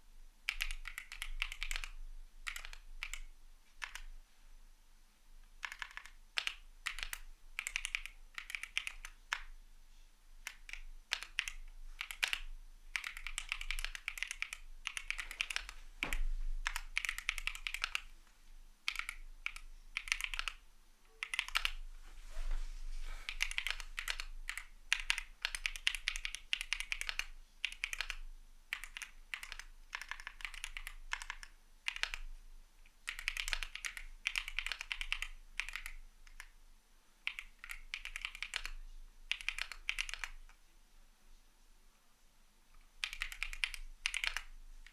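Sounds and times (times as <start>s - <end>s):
typing on mechanical keyboard: 0.5s - 4.1s, 5.6s - 9.6s, 10.4s - 18.1s, 18.9s - 21.8s, 23.3s - 32.3s, 33.0s - 36.6s, 37.2s - 40.6s, 43.0s - 44.9s.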